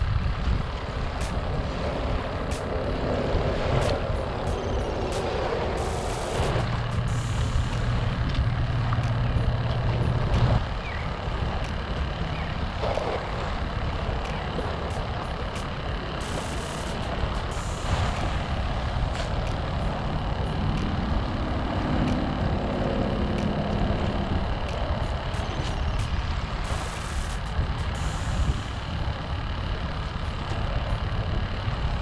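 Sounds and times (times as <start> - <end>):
low steady hum: 0.0 - 32.0
wind on microphone: 0.0 - 32.0.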